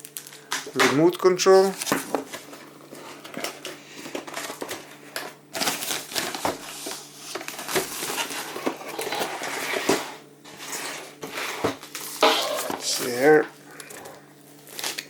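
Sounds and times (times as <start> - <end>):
plastic packaging crinkling: 0.0 - 9.9, 11.8 - 15.0.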